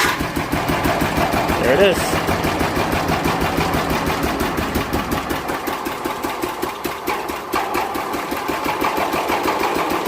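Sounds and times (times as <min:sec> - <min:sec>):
garden tractor engine running: 0:00.0 - 0:10.0.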